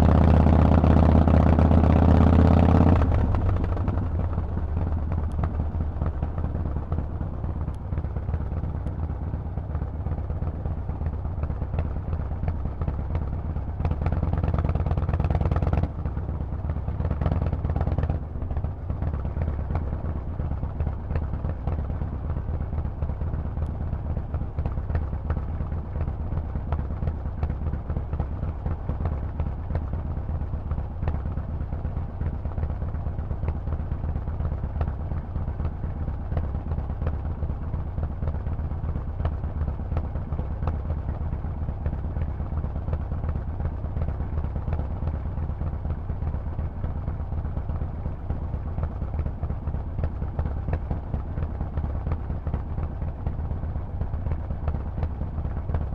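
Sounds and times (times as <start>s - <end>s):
motorcycle engine low rumble: 0.0s - 55.9s.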